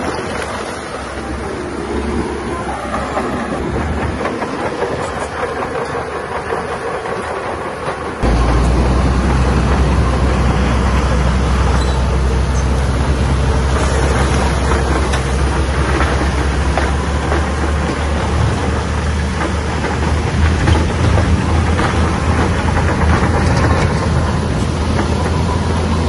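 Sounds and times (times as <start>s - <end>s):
bulldozer diesel engine droning: 0.0s - 26.0s
metallic clanks from tracks: 2.0s - 26.0s.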